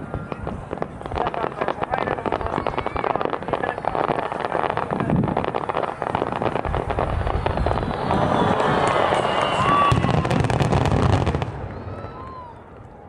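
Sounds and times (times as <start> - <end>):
firework barrage bangs and crackle: 0.0 - 13.0.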